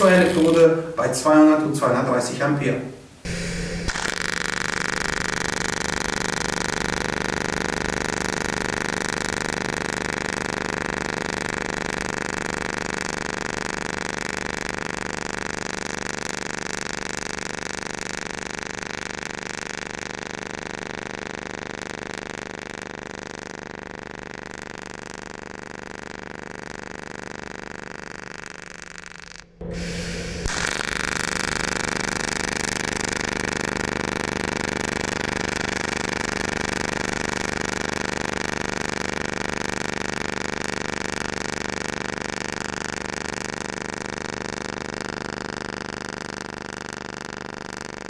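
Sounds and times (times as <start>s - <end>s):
welding arc buzzing: 0.0s - 48.0s.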